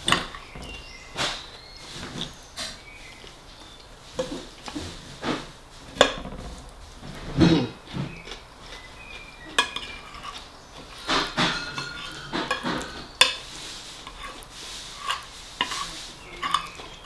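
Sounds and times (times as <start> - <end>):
cutlery scraping a ceramic plate: 0.0 - 3.3, 4.1 - 17.0.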